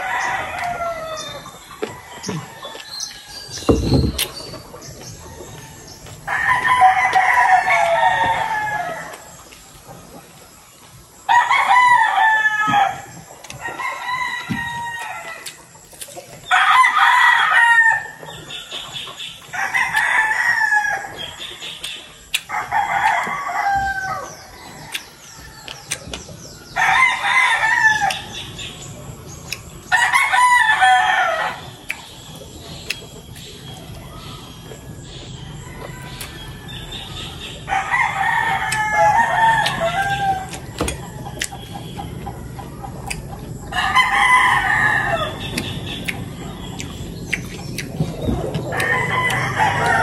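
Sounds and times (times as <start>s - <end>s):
roosters crowing: 0.0s - 10.2s, 11.1s - 50.0s.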